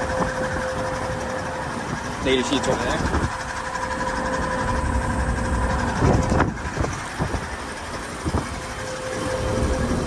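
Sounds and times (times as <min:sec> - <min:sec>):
air conditioner unit running: 0:00.0 - 0:10.0.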